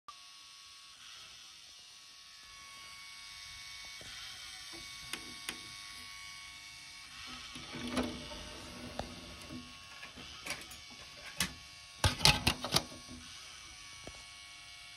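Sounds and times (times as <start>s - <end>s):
faint electrical whine: 0.6s - 14.9s.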